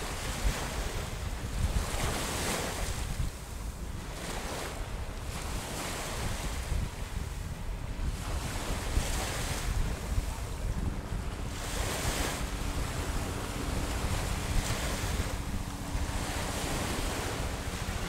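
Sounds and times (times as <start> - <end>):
waves breaking on beach: 0.0 - 18.0
low surf rumble: 2.7 - 18.0.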